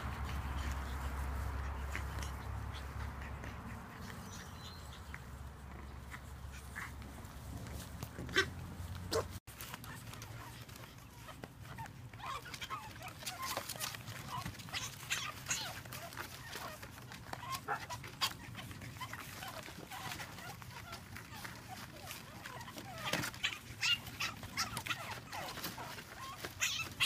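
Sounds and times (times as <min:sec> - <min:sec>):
puppies yipping and whimpering: 0:00.0 - 0:27.0.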